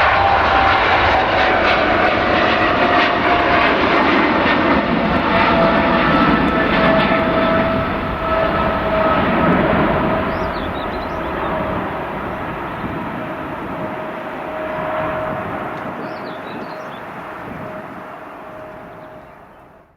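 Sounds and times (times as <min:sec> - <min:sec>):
airliner engines passing: 0:00.0 - 0:19.9.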